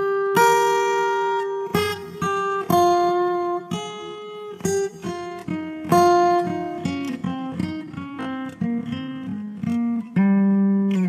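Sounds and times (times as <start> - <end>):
acoustic guitar plucking melody: 0.0 - 11.0.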